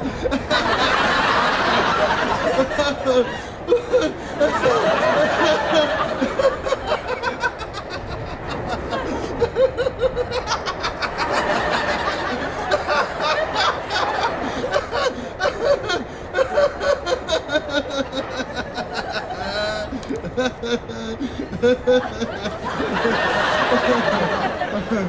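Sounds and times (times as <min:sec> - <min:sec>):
man laughing: 0:00.0 - 0:25.0.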